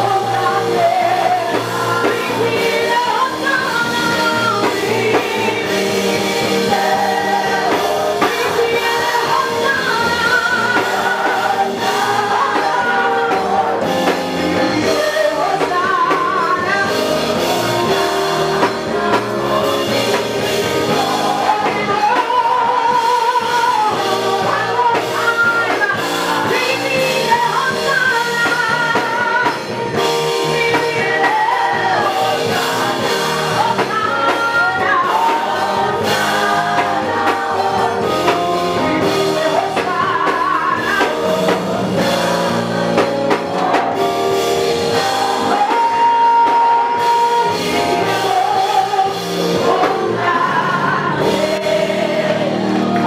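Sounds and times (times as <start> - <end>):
drums: 0.0 - 53.0
vocal group singing in harmony: 0.0 - 53.0.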